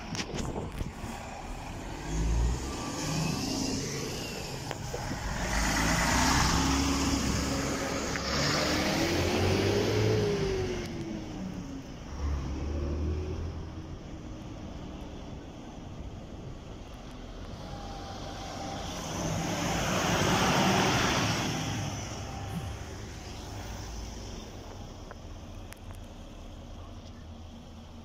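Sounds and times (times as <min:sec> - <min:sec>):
heavy diesel trucks pulling away: 0:00.1 - 0:28.0.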